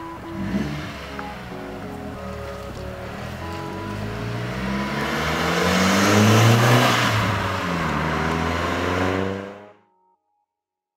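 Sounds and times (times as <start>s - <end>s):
car driving past: 0.2s - 9.8s.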